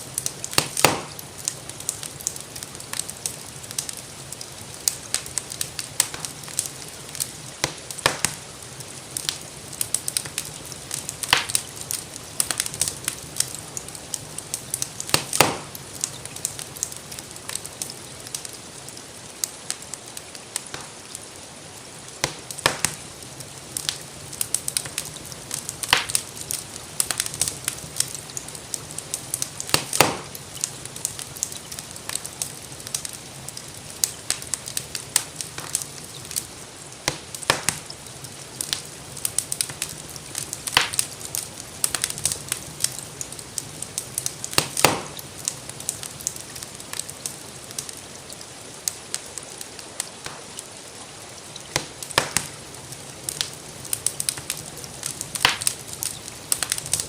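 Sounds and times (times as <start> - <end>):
rain hissing: 0.0 - 57.0
wood fire crackling: 0.0 - 57.0.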